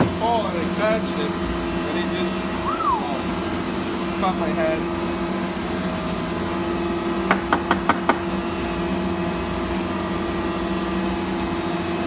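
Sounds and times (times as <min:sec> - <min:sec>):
shop machinery humming: 0:00.0 - 0:12.0.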